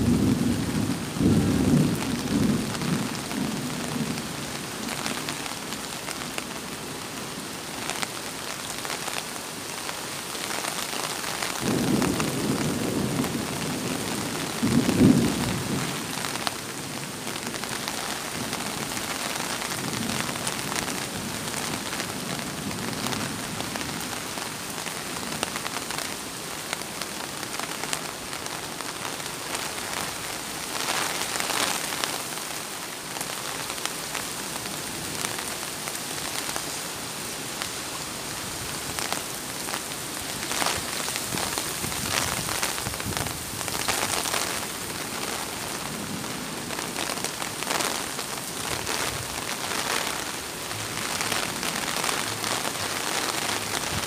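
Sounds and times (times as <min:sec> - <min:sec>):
heavy rain on a wet road: 0:00.0 - 0:54.0.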